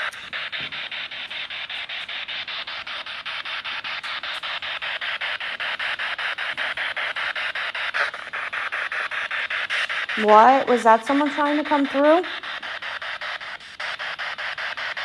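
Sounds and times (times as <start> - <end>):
pulsed radio static: 0.0 - 15.0.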